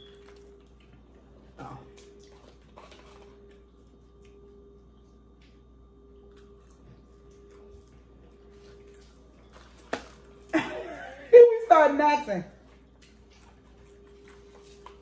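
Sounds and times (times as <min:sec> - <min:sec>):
chewing crispy chicken: 0:00.0 - 0:05.6, 0:06.2 - 0:10.6, 0:12.6 - 0:15.0
faint steady hum: 0:00.0 - 0:15.0.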